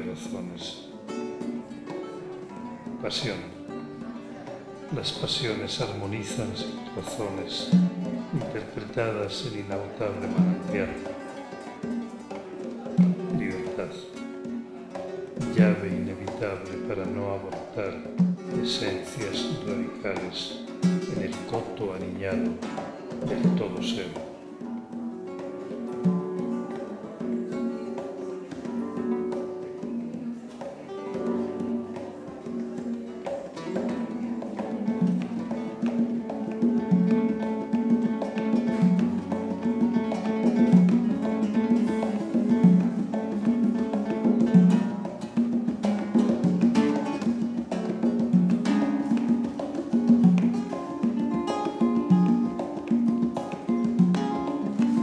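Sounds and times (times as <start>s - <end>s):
acoustic guitar playing: 0.0s - 55.0s
congas: 0.0s - 55.0s.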